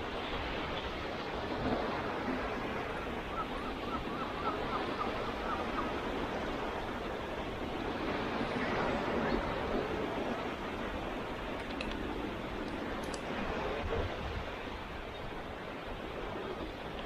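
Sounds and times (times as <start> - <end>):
sea surf: 0.0 - 17.0
wind: 0.0 - 17.0.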